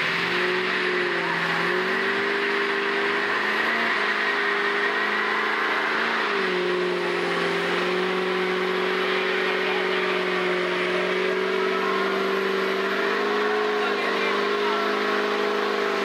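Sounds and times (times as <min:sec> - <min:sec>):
diesel truck engine revving: 0:00.0 - 0:16.0
spinning tyres rushing: 0:00.0 - 0:16.0.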